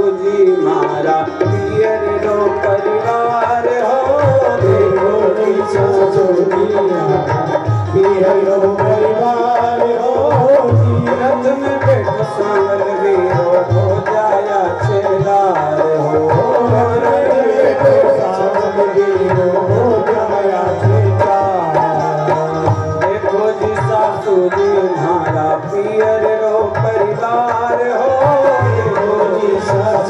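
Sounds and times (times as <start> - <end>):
tabla drumming: 0.0 - 30.0.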